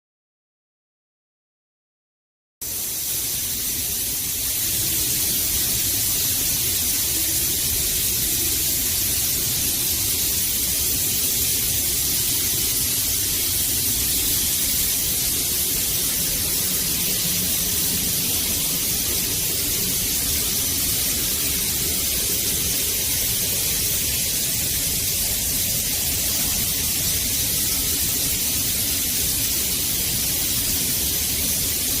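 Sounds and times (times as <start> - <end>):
misting fan spraying with hiss: 2.6 - 32.0.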